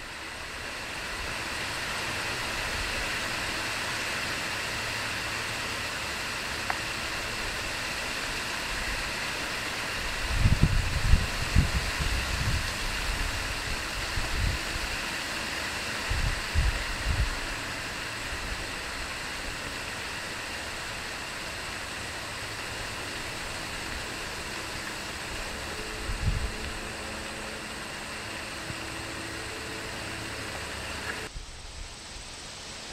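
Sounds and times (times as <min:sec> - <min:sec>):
steady outdoor hiss: 0:00.0 - 0:32.9.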